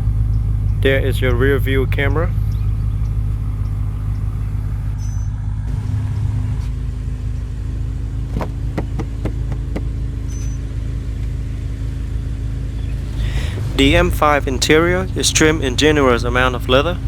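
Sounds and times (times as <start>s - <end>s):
car engine idling: 0.0s - 10.3s, 12.8s - 17.0s.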